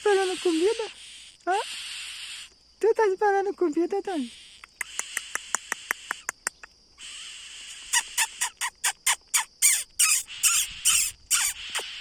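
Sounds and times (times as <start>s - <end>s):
nestlings begging calls: 0.0s - 2.5s, 4.3s - 12.0s.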